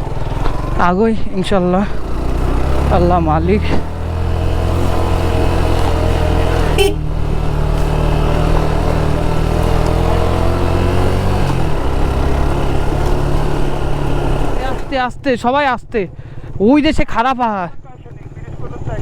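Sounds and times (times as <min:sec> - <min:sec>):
motorcycle engine under load: 0:00.0 - 0:15.2.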